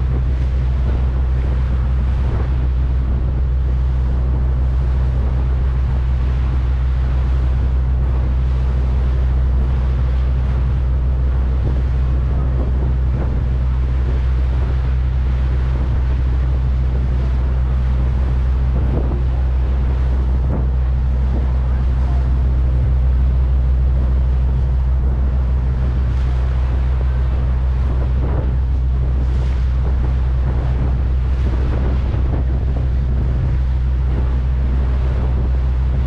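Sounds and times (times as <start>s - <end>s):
ferry engines droning: 0.0s - 36.0s
wind buffeting microphone: 0.0s - 36.0s.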